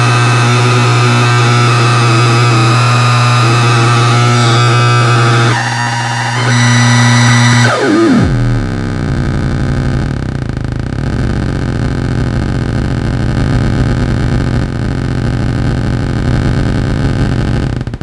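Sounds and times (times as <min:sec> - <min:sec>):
electronic buzzy tone dropping in pitch: 0:00.0 - 0:18.0.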